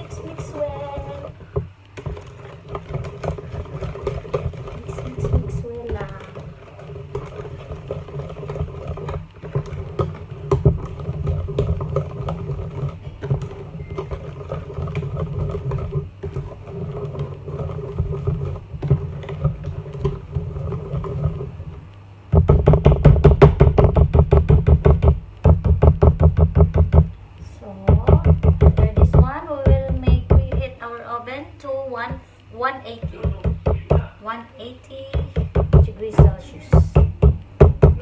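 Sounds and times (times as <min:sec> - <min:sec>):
whisk rattling against container: 0:00.0 - 0:27.1, 0:27.9 - 0:30.8, 0:35.1 - 0:38.0
whisk stirring batter: 0:00.0 - 0:27.2, 0:27.8 - 0:30.8, 0:32.1 - 0:38.0.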